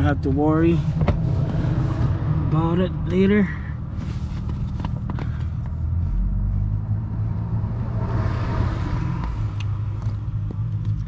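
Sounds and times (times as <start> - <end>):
engine running with low hum: 0.0 - 11.0.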